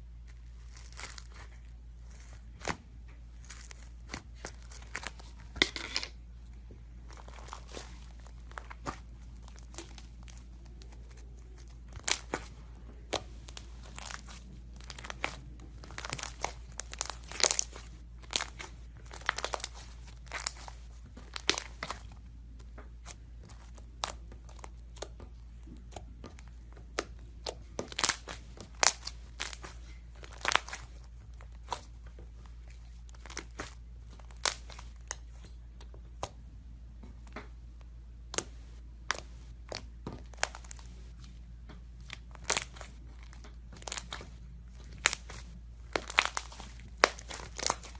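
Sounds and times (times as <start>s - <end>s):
crunchy slime crackling: 0.0s - 36.4s, 38.3s - 47.9s.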